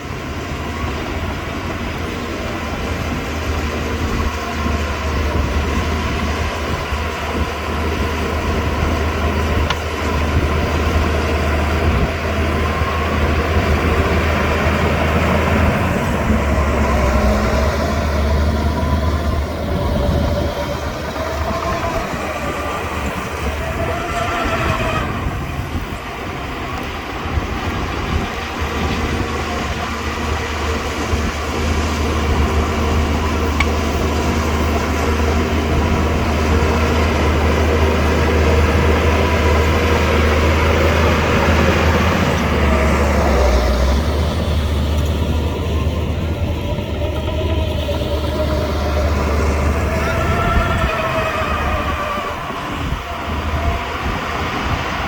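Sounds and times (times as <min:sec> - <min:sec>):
bulldozer diesel engine drone: 0:00.0 - 0:55.0
steel tracks clanking: 0:00.0 - 0:55.0.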